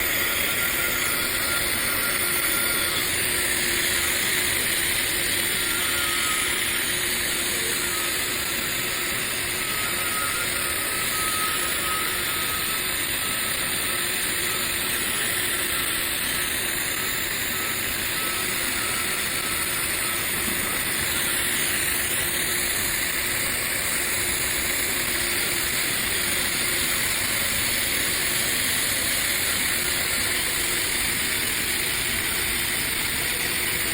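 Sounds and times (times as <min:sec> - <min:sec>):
welding arc hissing: 0:00.0 - 0:33.9.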